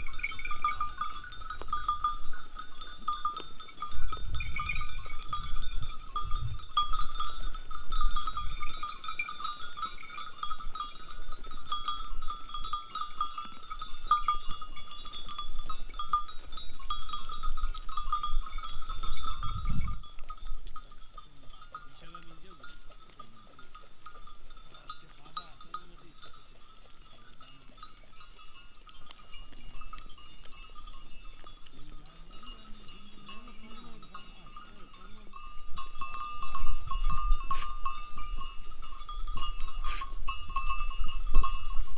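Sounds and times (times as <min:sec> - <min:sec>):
animal bells clinking: 0:00.0 - 0:41.9.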